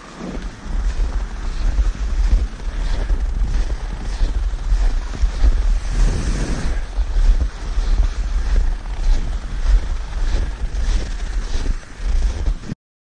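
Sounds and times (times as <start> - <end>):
sled scraping over snow: 0.0 - 12.8
wind buffeting microphone: 0.0 - 12.8.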